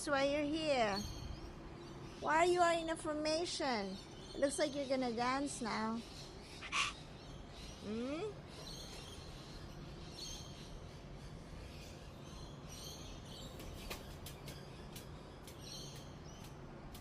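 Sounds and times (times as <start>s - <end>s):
birds chirping: 0.0s - 17.0s
low background hum: 0.0s - 17.0s.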